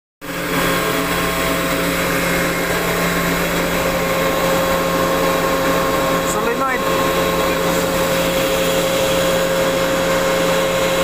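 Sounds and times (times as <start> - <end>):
air compressor drone: 0.2 - 11.0.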